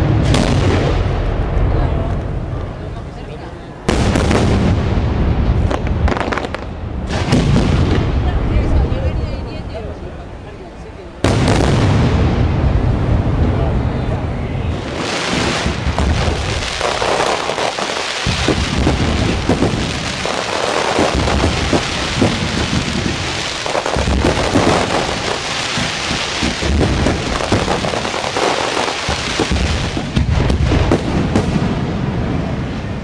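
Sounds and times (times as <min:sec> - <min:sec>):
deep firework booms: 0:00.0 - 0:02.8, 0:03.8 - 0:09.2, 0:11.2 - 0:33.0
fireworks crackling: 0:00.0 - 0:03.1, 0:03.7 - 0:09.4, 0:11.2 - 0:33.0.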